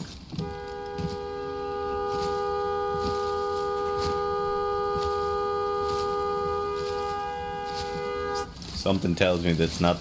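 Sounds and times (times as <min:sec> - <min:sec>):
sustained two-note horn tone: 0:00.3 - 0:08.6.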